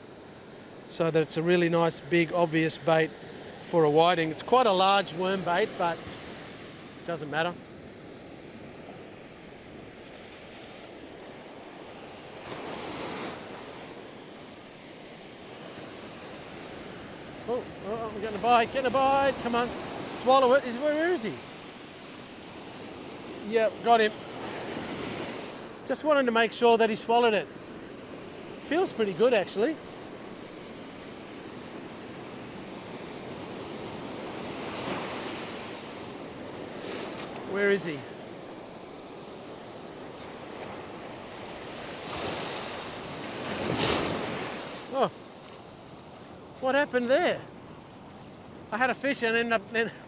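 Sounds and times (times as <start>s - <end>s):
ocean surf breaking: 0.0s - 50.0s.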